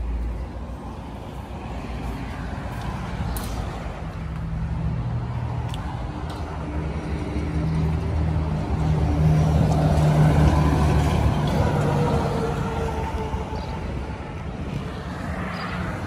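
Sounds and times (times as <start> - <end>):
diesel engines droning: 0.0 - 16.0.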